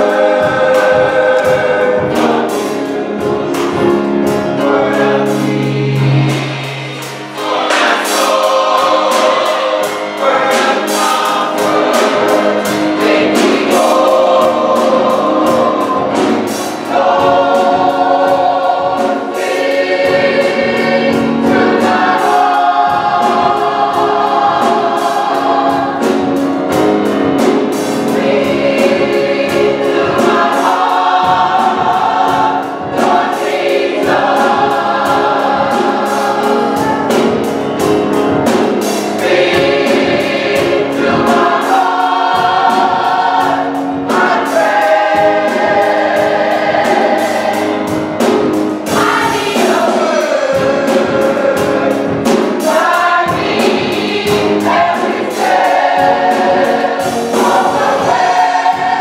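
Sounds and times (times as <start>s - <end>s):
gospel choir singing: 0.0s - 59.0s
steady beat: 0.0s - 59.0s.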